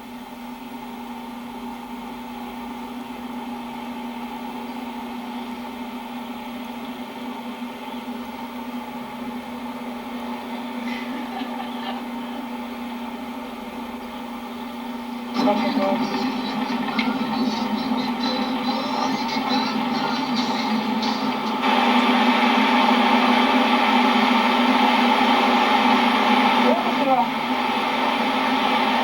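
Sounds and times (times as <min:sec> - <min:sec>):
car engine and road drone: 0:00.0 - 0:29.0.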